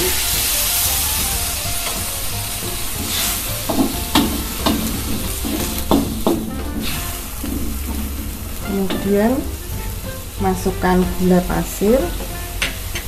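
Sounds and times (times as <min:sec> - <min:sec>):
food sizzling in a wok: 0:00.0 - 0:13.0
spatula scraping and knocking on pan: 0:00.0 - 0:13.0.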